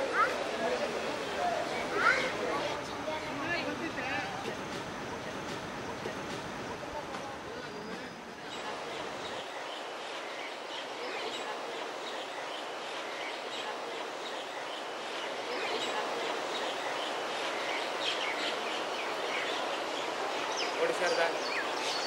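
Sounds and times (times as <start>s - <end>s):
steady background hiss: 0.0s - 22.0s
small birds chirping: 1.2s - 22.0s.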